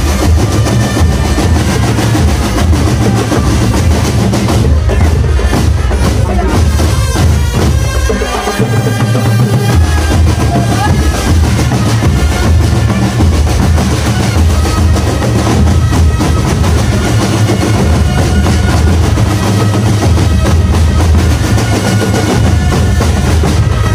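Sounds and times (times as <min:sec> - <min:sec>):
bass drums and snare drums: 0:00.0 - 0:23.9.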